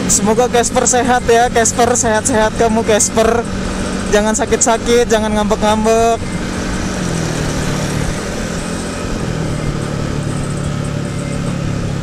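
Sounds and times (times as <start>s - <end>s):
motorcycle engine running: 0.0s - 12.0s
road noise: 0.0s - 12.0s
wind noise: 0.0s - 12.0s.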